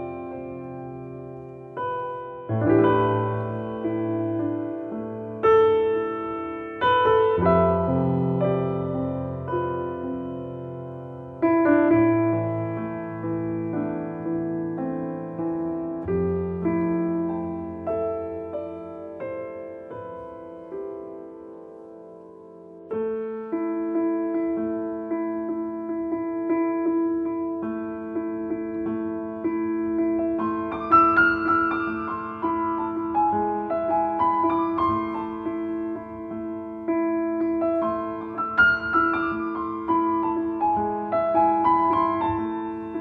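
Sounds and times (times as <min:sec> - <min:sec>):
slow gentle piano melody: 0:00.0 - 0:43.0.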